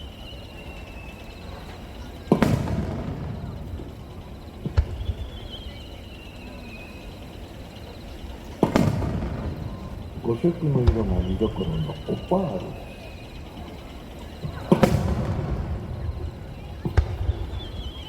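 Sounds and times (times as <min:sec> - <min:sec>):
falling firework whistle: 0:00.0 - 0:18.0
firework crack: 0:00.0 - 0:18.0
firework booms with rumble: 0:01.5 - 0:05.9, 0:07.7 - 0:18.0.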